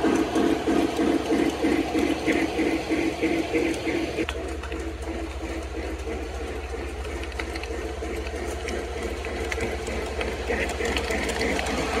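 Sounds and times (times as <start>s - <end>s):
model train motor whirring: 0.0s - 12.0s
wheels clicking on rails: 0.0s - 12.0s.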